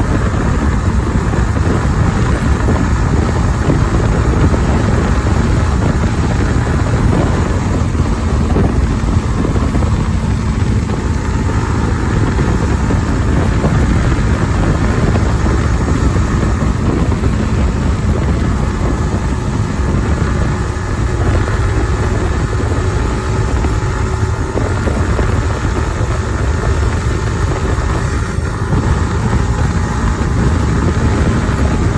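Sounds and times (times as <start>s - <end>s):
motorcycle engine running: 0.0s - 31.9s
wind rumble on microphone: 0.0s - 31.9s.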